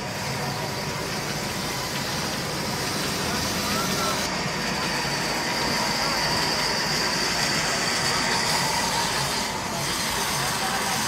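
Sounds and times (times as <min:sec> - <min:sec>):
diesel engine running: 0:00.0 - 0:11.0
high whine: 0:00.0 - 0:11.0.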